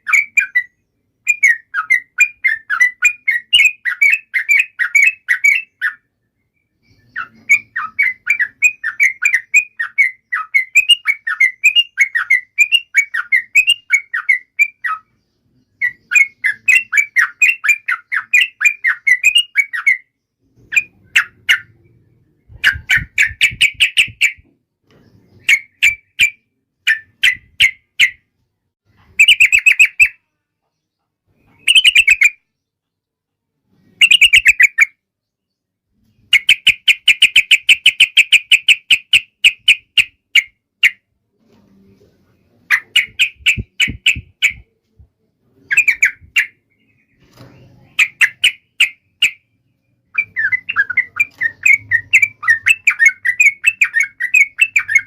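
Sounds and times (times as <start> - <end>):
bird chattering song: 0.0 - 28.3, 29.0 - 33.0, 33.8 - 41.1, 42.4 - 55.0.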